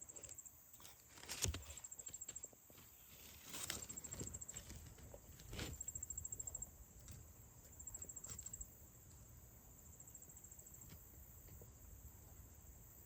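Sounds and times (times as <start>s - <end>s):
insects chirping in trills: 0.0s - 13.0s.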